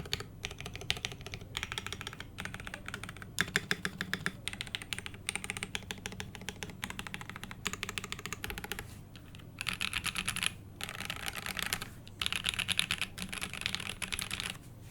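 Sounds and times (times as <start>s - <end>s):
mechanical keyboard typing: 0.0s - 14.6s.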